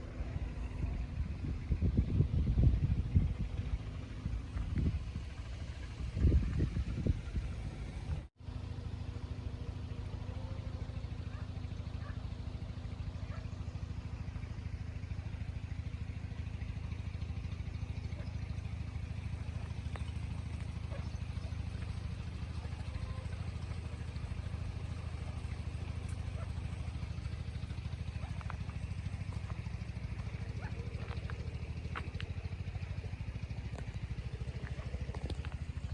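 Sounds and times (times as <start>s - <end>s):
low motor drone: 0.0s - 35.9s.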